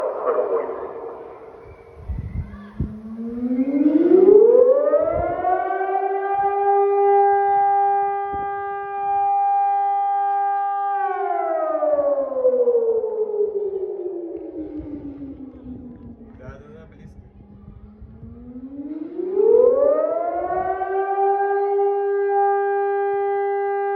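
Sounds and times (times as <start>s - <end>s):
warning siren: 0.0s - 23.9s.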